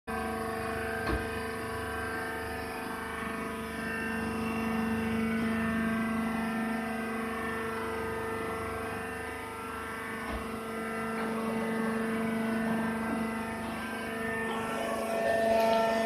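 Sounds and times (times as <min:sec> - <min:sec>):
hydraulic power unit humming: 0:00.1 - 0:16.0.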